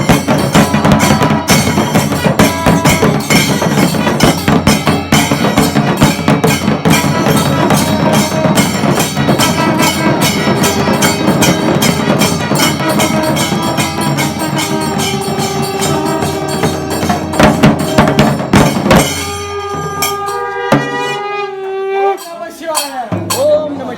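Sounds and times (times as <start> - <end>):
hand cymbals: 0.0 - 21.4, 22.1 - 23.8
temple drums: 0.0 - 21.4, 22.2 - 23.9
long horns: 0.0 - 22.9.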